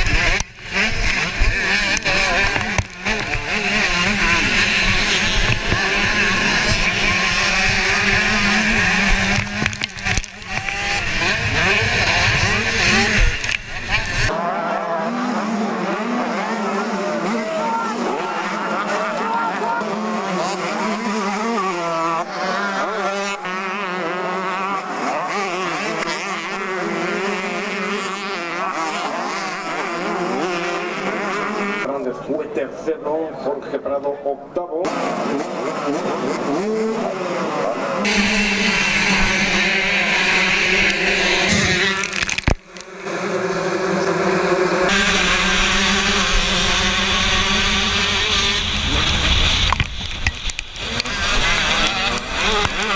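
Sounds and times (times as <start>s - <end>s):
motocross bikes revving: 0.0s - 34.1s, 34.7s - 52.9s.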